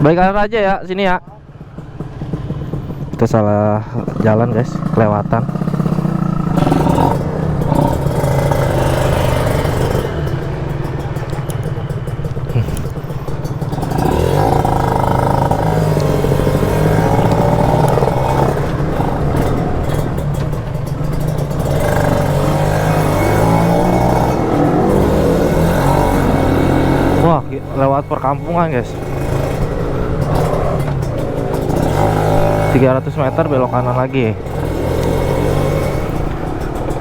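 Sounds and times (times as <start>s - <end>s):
motorcycle engine revving: 1.3s - 37.0s.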